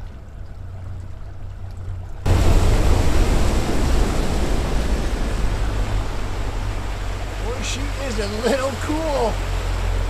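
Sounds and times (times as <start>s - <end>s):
outboard motor droning: 0.0s - 10.0s.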